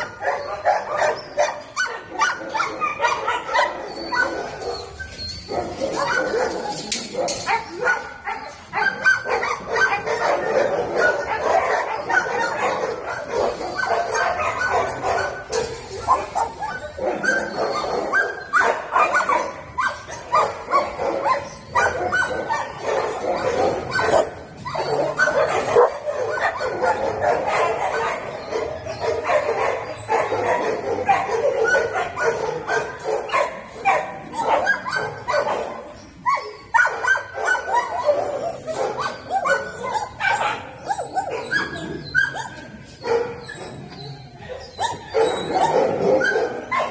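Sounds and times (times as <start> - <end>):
dogs barking and yipping: 0.0 - 46.9.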